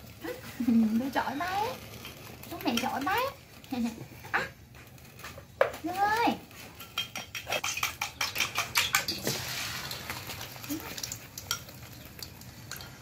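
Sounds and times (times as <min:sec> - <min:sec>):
egg sizzling in wok: 0:00.0 - 0:13.0.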